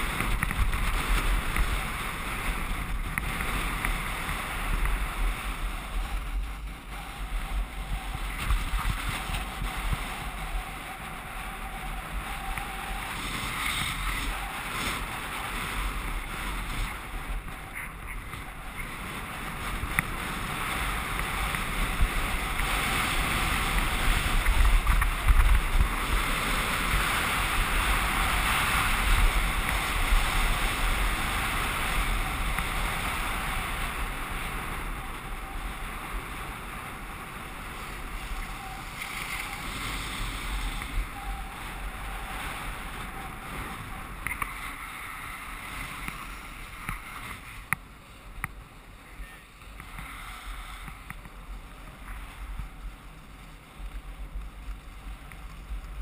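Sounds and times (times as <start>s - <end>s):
skis scraping over snow: 0.0s - 56.0s
wind rushing over microphone: 0.0s - 56.0s.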